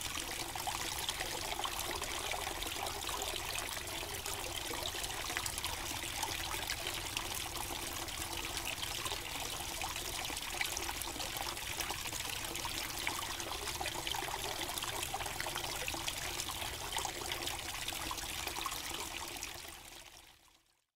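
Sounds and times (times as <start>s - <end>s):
water trickling into a pond: 0.0s - 20.9s.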